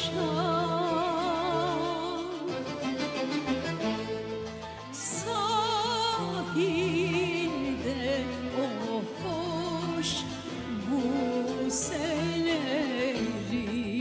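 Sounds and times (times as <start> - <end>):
woman singing with vibrato: 0.0 - 2.8, 5.0 - 14.0
violins and cello ensemble: 0.0 - 14.0.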